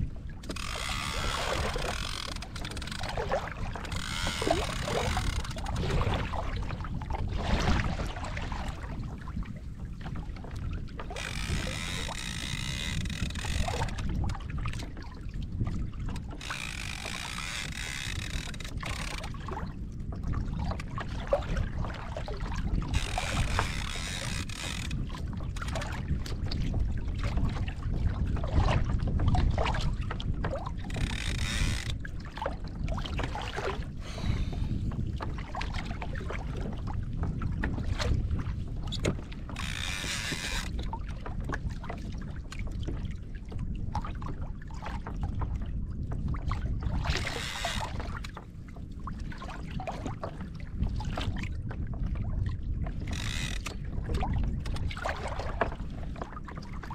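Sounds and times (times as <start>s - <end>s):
water against kayak hull: 0.0s - 56.9s
wind rumble on microphone: 0.0s - 56.9s.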